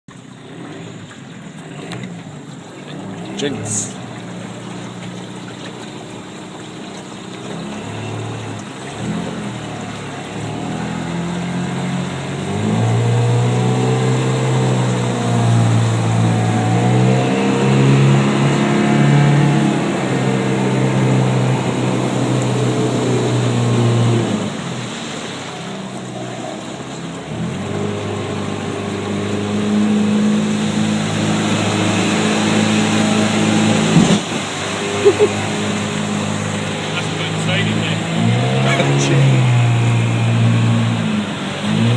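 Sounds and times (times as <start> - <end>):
engine running: 0.1 - 41.9.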